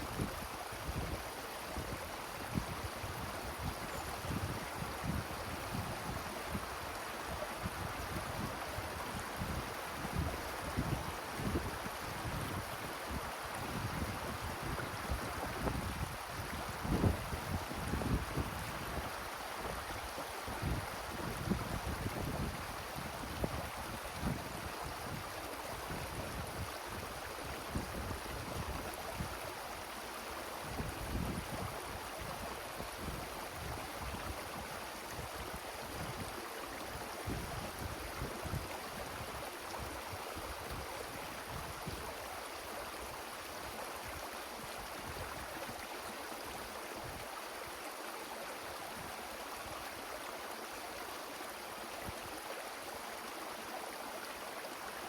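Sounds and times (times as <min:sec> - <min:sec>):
wind through trees: 0:00.0 - 0:55.0.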